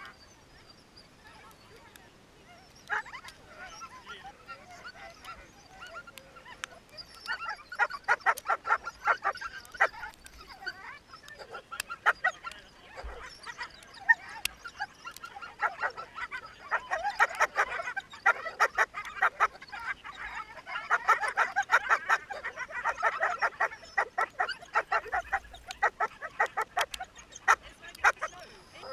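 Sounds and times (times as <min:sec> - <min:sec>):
sled dogs barking and yelping: 0:00.0 - 0:28.9.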